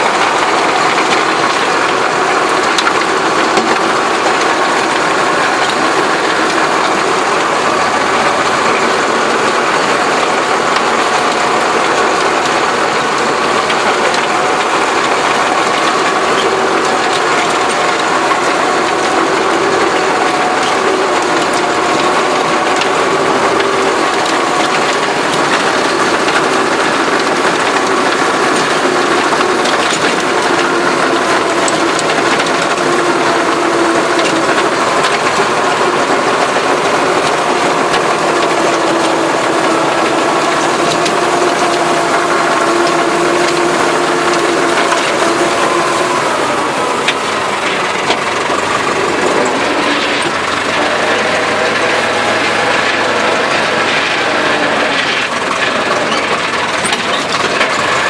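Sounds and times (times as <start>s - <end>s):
dense mechanical clatter: 0.0s - 58.0s
tractor engine under load: 0.0s - 58.0s.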